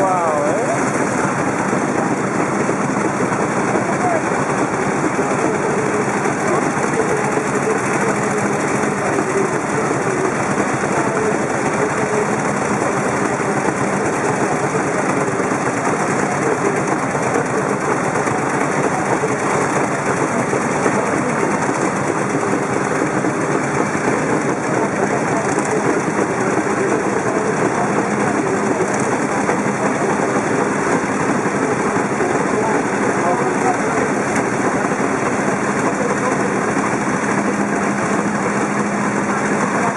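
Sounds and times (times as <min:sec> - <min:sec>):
other motorcycle engines running: 0:00.0 - 0:39.9.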